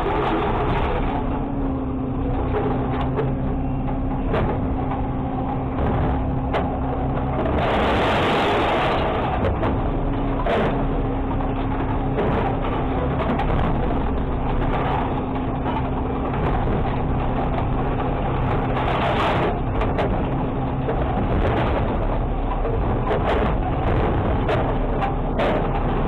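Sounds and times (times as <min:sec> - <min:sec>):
garbage truck engine and hydraulics: 0:00.0 - 0:26.0
steady hum: 0:00.0 - 0:26.0.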